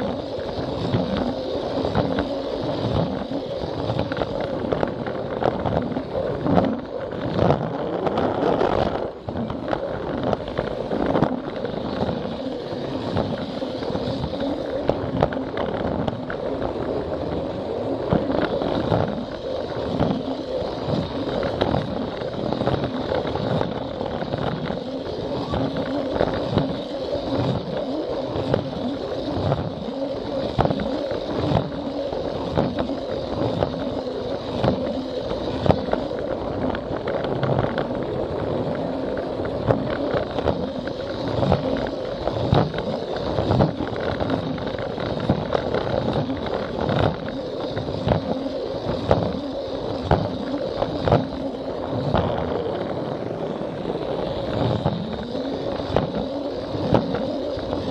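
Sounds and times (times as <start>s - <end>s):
wheels clicking on plastic track: 0.0s - 57.9s.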